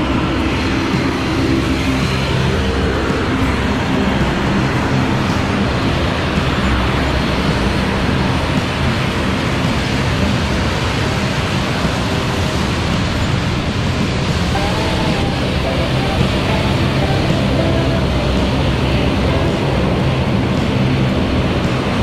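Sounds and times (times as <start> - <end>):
airliner cabin engine drone: 0.0 - 22.0.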